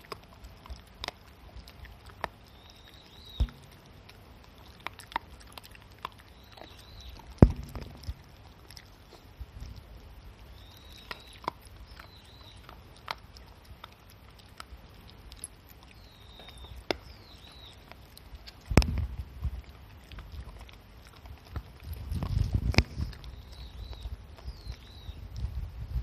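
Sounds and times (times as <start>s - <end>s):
dog chewing a treat: 0.0s - 25.8s.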